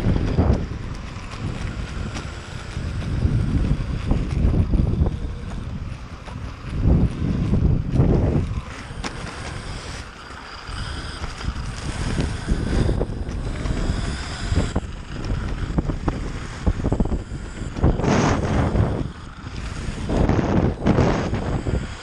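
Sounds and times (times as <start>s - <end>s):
electric motor whine: 0.0s - 22.0s
wind buffeting microphone: 0.0s - 22.0s.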